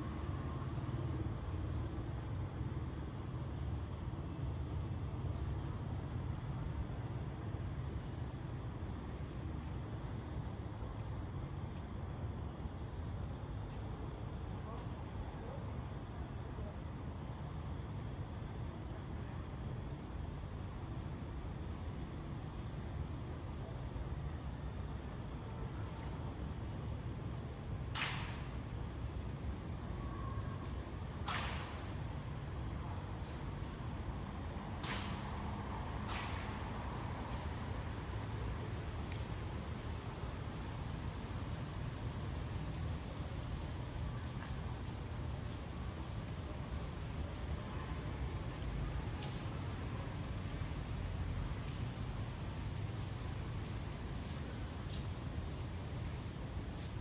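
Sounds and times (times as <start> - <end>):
street ambience rumble: 0.0 - 57.0.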